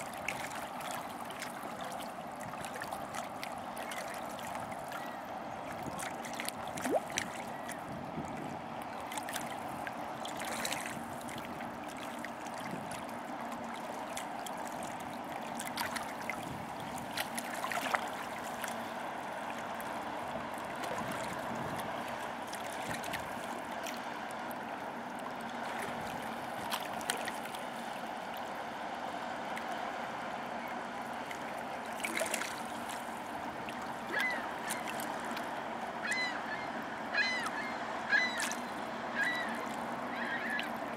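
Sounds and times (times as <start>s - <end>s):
ship engine drone: 0.0s - 40.9s
water lapping and splashing: 0.0s - 40.9s.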